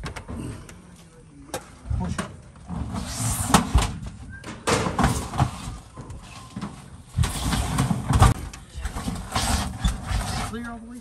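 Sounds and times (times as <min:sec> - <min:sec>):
scraping and rustling: 0:01.9 - 0:11.0.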